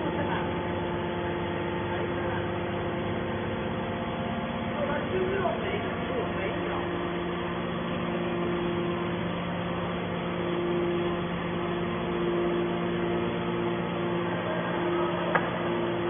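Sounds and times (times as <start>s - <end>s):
high machine whine: 0.0s - 16.0s
hydraulic unit humming: 0.0s - 16.0s.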